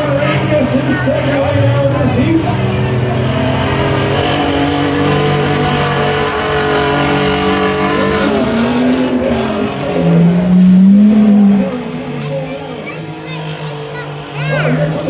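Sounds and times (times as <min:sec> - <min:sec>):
engine revving up close by: 0:00.0 - 0:15.0
race truck engines running hard: 0:00.0 - 0:15.0.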